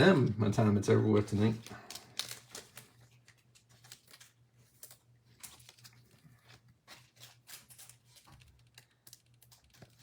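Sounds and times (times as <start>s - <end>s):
cards and wrappers rustling: 0.0s - 10.0s.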